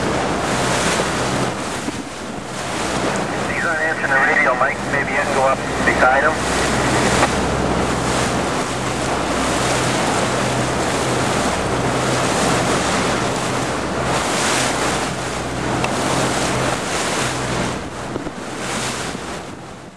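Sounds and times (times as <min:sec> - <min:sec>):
boat engine drone: 0:00.0 - 0:19.9
water rushing past boat hull: 0:00.0 - 0:19.9
wind buffeting microphone: 0:00.0 - 0:19.9.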